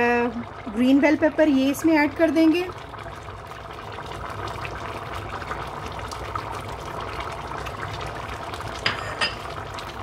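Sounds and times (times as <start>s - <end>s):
rice bubbling in pot: 0.0s - 10.0s.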